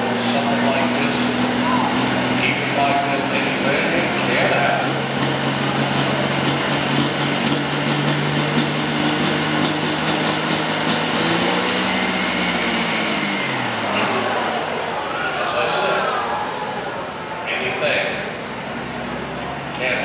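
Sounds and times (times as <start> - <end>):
diesel tractor engine under load: 0.0 - 20.0.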